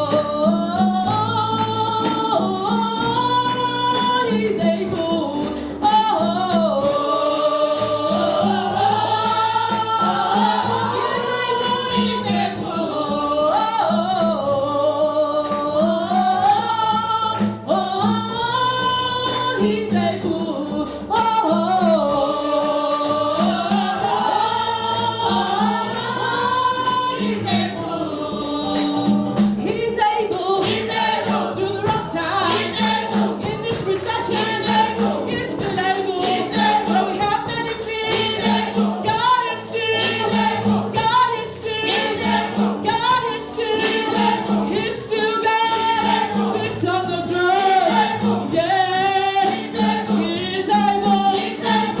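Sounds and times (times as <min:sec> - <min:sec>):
person singing gospel: 0:00.0 - 0:52.0.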